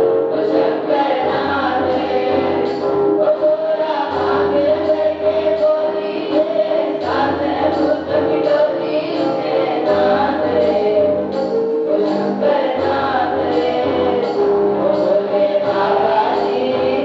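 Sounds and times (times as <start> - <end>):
keyboard accompaniment: 0.0 - 17.0
steady beat: 0.0 - 17.0
students singing together: 0.0 - 17.0.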